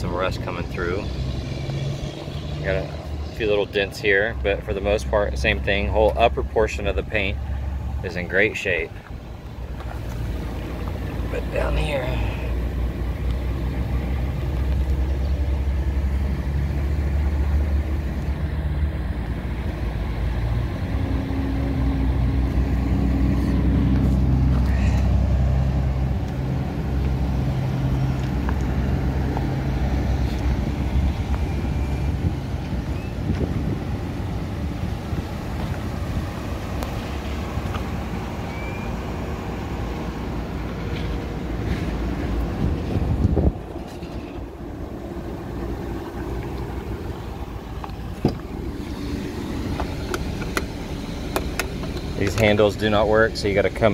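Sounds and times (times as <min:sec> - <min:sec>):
road traffic engines rumbling: 0:00.0 - 0:53.9.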